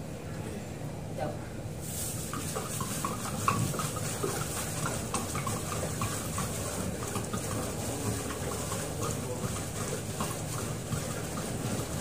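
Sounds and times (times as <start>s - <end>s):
water splashing and trickling: 2.3s - 12.0s.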